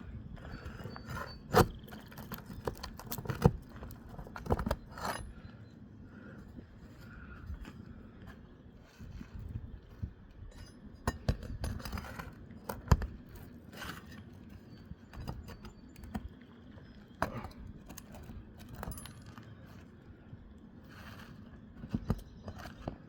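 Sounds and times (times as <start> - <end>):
metal tools scraping on roof shingles: 0.0 - 20.0.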